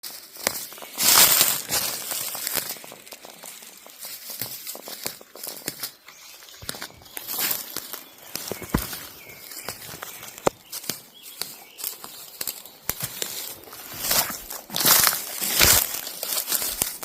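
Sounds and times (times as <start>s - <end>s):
dry leaves rustling: 0.0s - 17.0s
twigs snapping: 0.0s - 17.0s.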